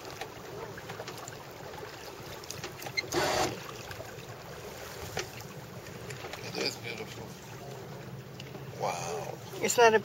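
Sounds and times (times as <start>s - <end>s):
water lapping on boat hull: 0.0s - 10.0s.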